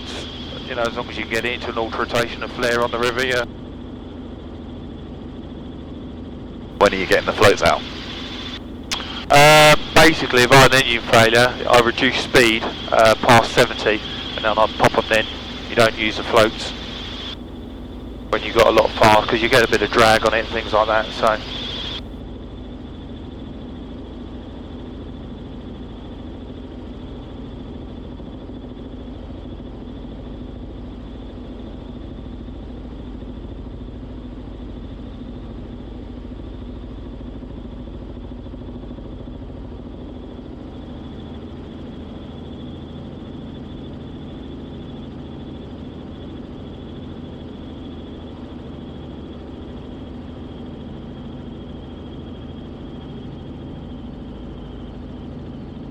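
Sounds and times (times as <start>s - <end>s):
helicopter engine and rotor drone: 0.0s - 55.9s.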